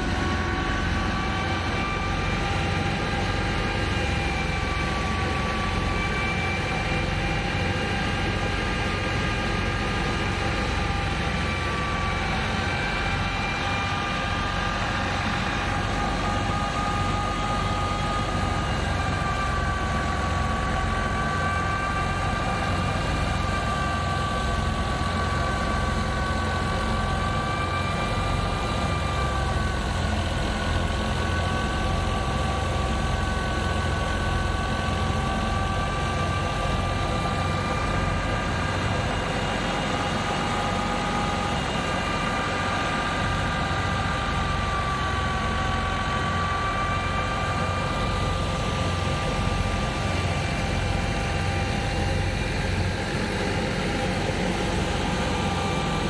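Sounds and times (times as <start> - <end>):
diesel tractor engine under load: 0.0 - 56.0
thresher high whine: 0.0 - 56.0.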